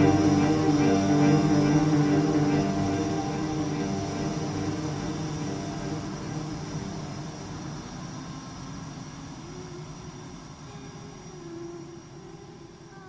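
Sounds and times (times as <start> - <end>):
low rumbling drone: 0.0 - 10.9.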